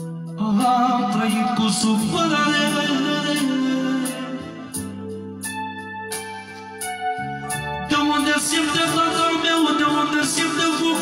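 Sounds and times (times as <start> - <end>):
sustained keyboard chord: 0.0 - 10.9
instrumental backing music: 0.0 - 11.0.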